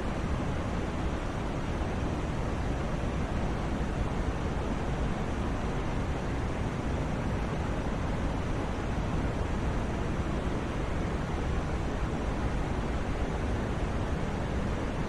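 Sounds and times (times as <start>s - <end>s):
steady low hiss noise: 0.0s - 15.0s.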